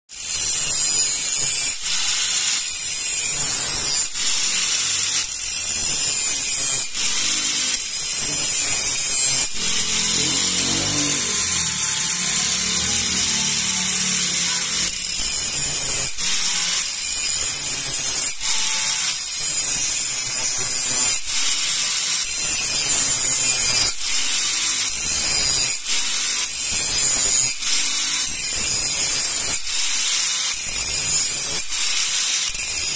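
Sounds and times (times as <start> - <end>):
angle grinder grinding metal: 0.1 - 32.9.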